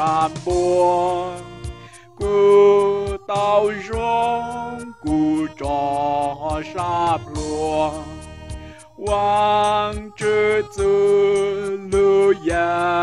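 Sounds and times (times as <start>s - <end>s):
backing track with steady beat: 0.0s - 13.0s
person singing a hymn: 0.0s - 13.0s.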